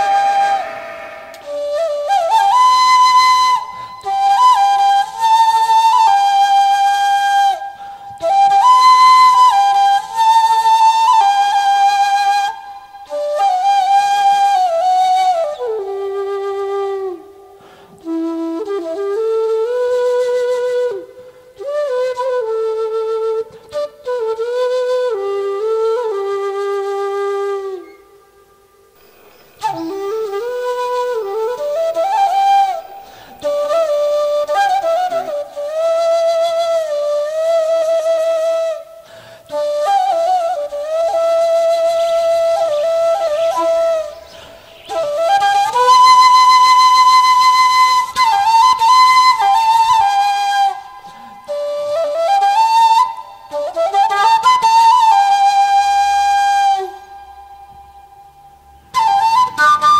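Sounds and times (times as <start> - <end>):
flute playing slow melody: 0.0 - 59.9.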